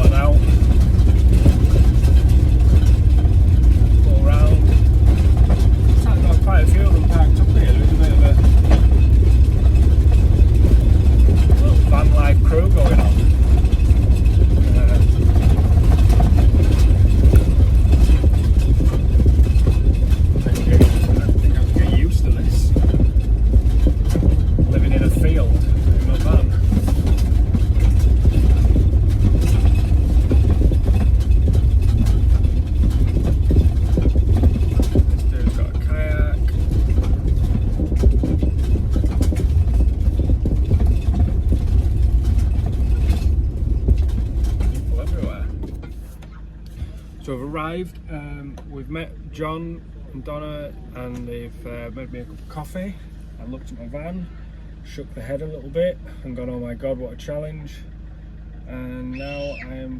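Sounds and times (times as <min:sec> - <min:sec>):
light rattles: 0:00.0 - 0:59.1
road noise: 0:00.0 - 0:59.9
van engine running: 0:00.0 - 0:59.9.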